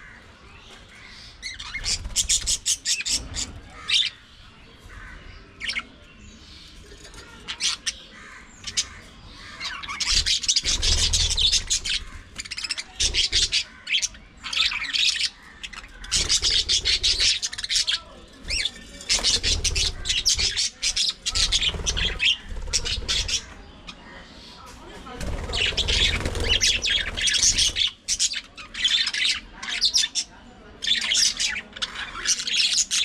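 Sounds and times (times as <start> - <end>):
budgerigars chattering and squawking: 0.0 - 33.0.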